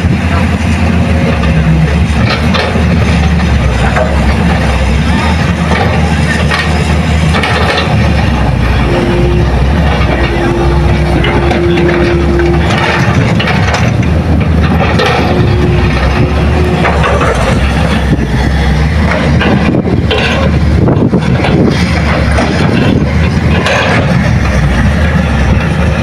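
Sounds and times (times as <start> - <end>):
diesel engines droning: 0.0 - 26.0
steady whine: 0.0 - 26.0.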